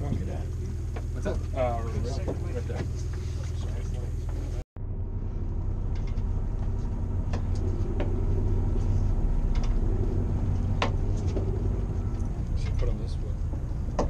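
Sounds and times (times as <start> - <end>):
boat engine hum: 0.0 - 14.0.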